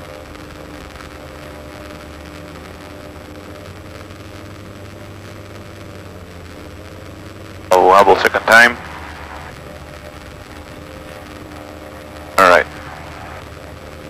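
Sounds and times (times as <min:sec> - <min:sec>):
aircraft engines droning: 0:00.0 - 0:14.0.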